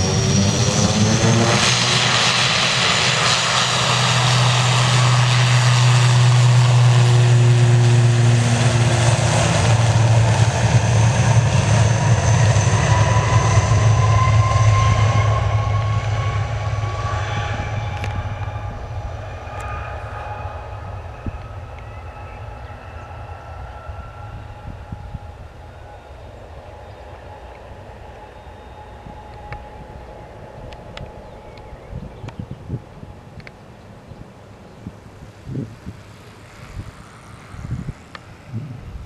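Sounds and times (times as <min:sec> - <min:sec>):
turboprop engines at takeoff: 0:00.0 - 0:39.0.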